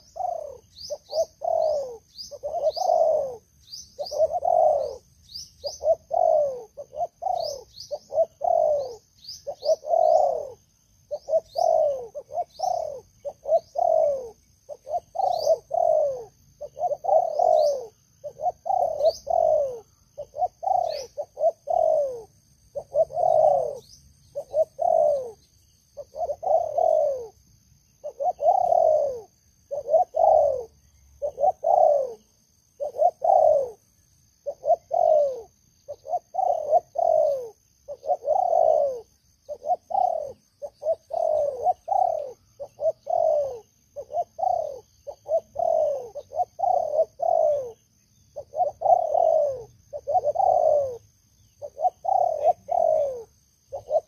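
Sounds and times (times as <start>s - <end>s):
doves cooing: 0.0s - 27.4s, 28.0s - 54.0s.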